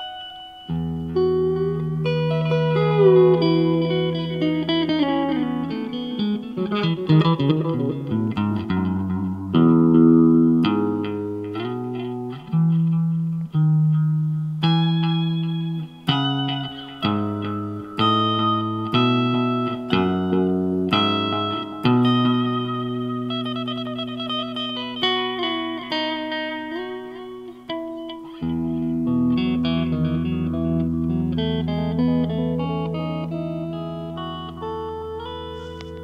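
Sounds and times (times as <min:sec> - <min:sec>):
acoustic guitar chords and notes: 0:00.0 - 0:36.0.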